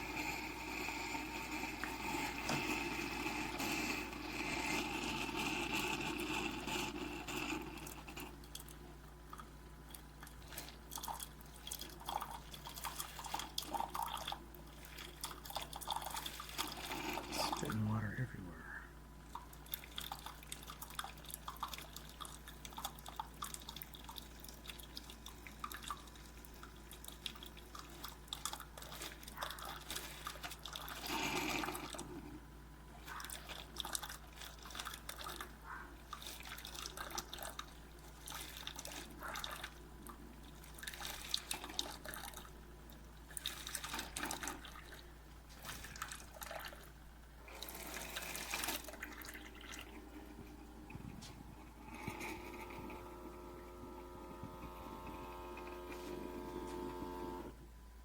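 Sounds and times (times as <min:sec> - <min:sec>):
coffee brewer spitting and dripping: 0:00.0 - 0:17.7, 0:19.2 - 0:57.6
faint machine hum: 0:00.0 - 0:58.0.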